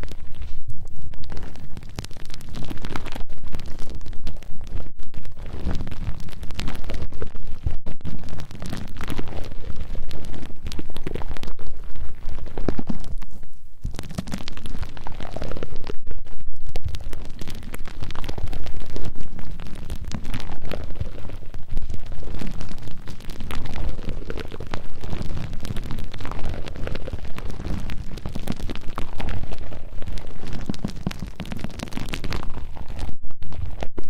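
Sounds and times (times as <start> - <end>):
fingers rubbing on microphone: 0.0 - 34.0.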